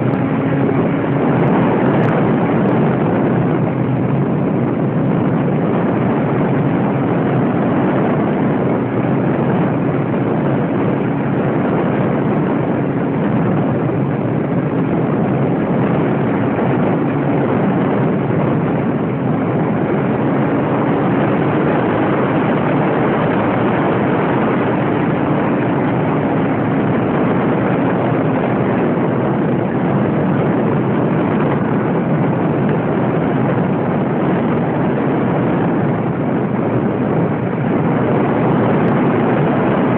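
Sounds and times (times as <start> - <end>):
rush of air: 0.0 - 39.9.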